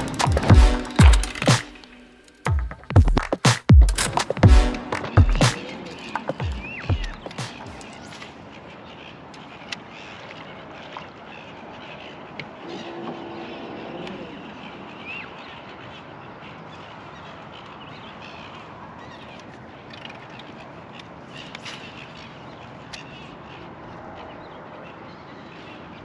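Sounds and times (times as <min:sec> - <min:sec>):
bird calls: 0:04.6 - 0:26.0.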